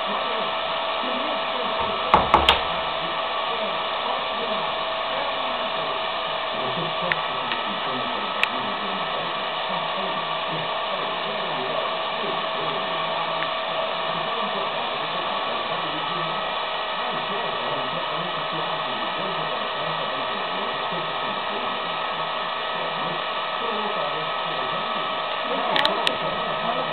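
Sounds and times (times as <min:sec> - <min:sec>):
hair dryer running: 0:00.0 - 0:26.9.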